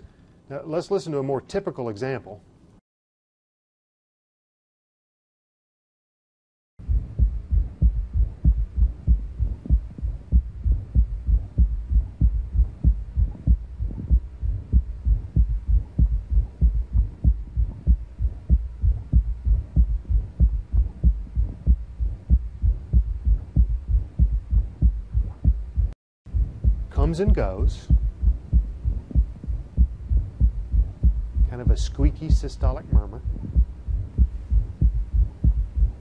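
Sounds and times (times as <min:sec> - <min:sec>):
low heartbeats through stethoscope: 0:06.8 - 0:36.0
soft extra heart filling sound: 0:06.8 - 0:36.0
squeaky heart murmur: 0:06.8 - 0:36.0.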